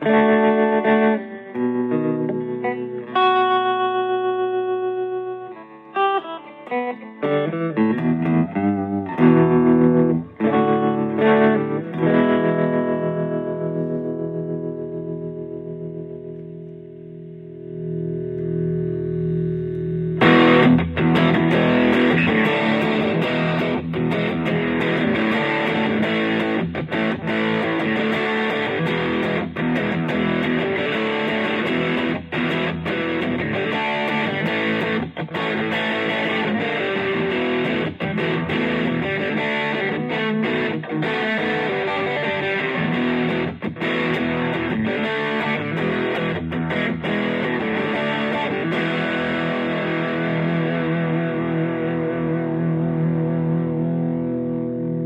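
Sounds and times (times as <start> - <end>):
distorted electric guitar riffs: 0.0 - 55.0.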